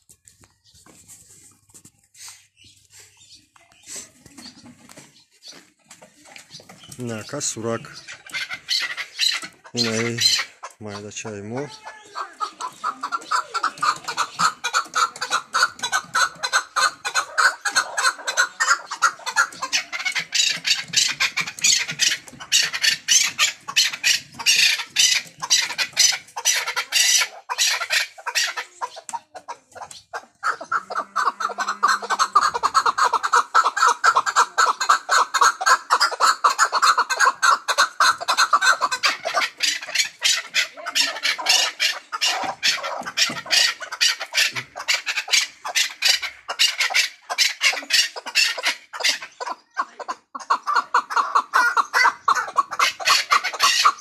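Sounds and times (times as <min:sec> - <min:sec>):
partridge clucking calls: 0:00.0 - 0:54.0.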